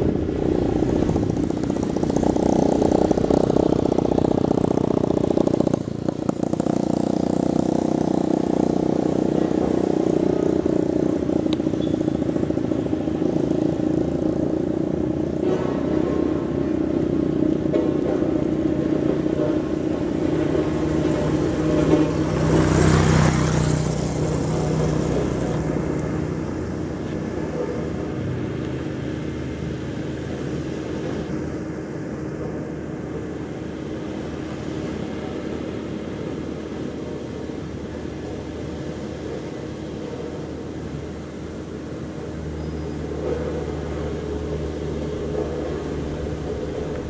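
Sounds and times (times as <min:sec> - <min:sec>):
road roller diesel engine running: 0:00.0 - 0:47.0.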